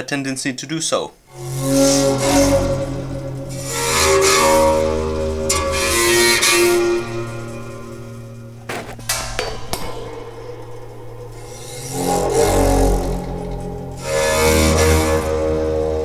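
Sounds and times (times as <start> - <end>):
deep metallic ringing with rasp: 1.3 - 16.0.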